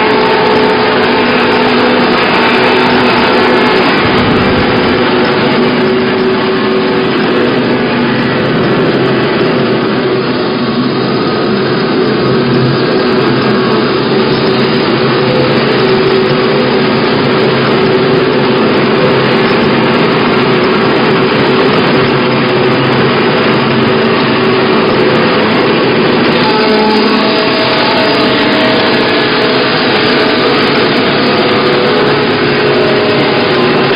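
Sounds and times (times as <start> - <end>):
log crusher machine running: 0.0 - 33.9.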